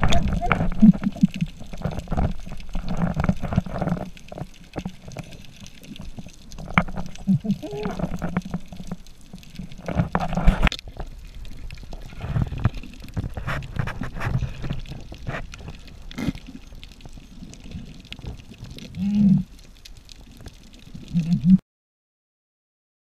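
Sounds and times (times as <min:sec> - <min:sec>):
water sloshing and splashing: 0:00.0 - 0:21.6.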